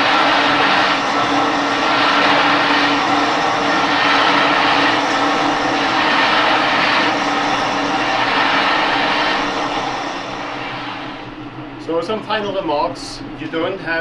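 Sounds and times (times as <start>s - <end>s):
rowing machine whirring: 0.0s - 12.2s.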